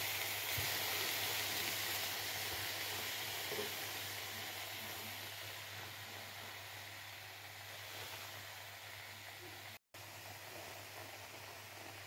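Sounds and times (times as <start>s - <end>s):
mushrooms sizzling in a frying pan: 0.0s - 12.0s.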